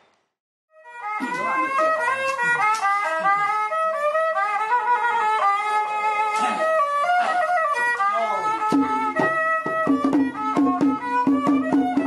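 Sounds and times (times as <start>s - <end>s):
instrumental music: 0.7s - 12.0s.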